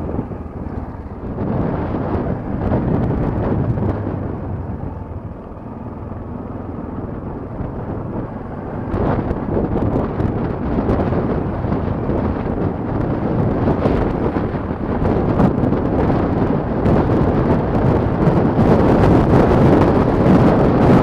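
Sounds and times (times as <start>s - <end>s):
motorcycle engine rumble: 0.0s - 21.0s
wind buffeting microphone: 0.0s - 21.0s.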